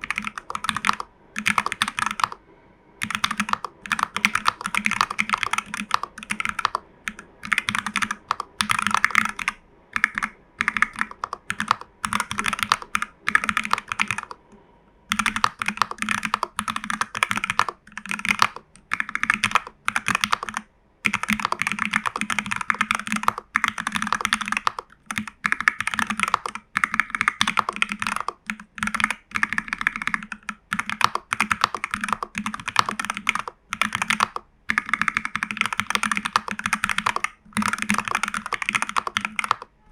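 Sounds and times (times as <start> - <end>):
mechanical keyboard typing: 0.0 - 2.4, 3.0 - 14.4, 15.1 - 39.8.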